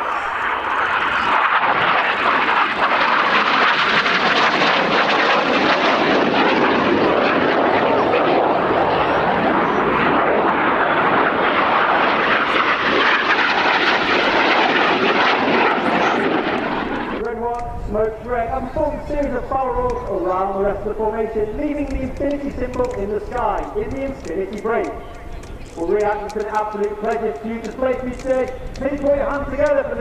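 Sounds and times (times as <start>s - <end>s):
jet engines flying by: 0.0s - 30.0s.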